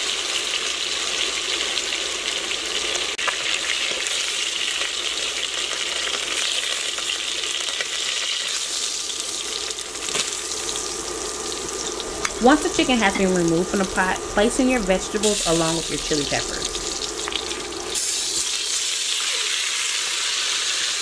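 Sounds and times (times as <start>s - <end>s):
meat sizzling and crackling in oil: 0.0s - 21.0s.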